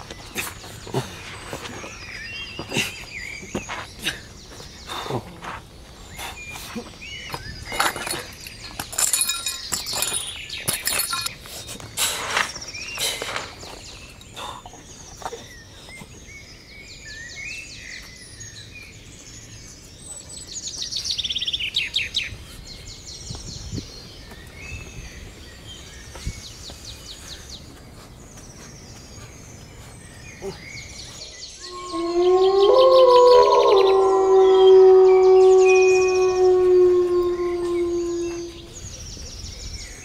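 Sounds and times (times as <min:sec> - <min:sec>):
wild birds trilling and chirping: 0:00.0 - 0:40.0.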